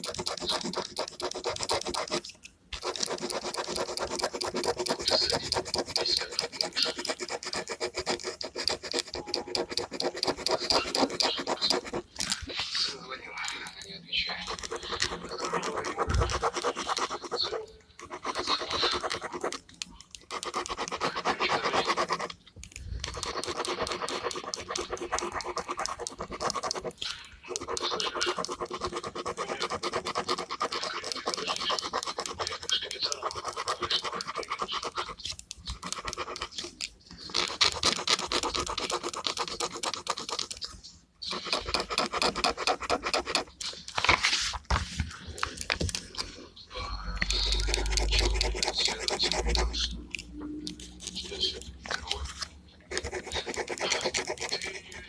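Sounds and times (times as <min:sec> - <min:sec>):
pen scratching on paper: 0:00.0 - 0:46.4, 0:47.1 - 0:55.0.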